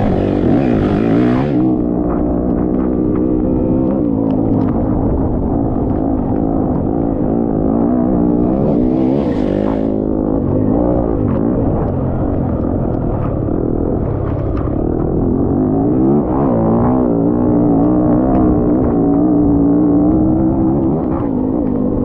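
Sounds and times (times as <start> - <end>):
racing engine revving under load: 0.0 - 22.0.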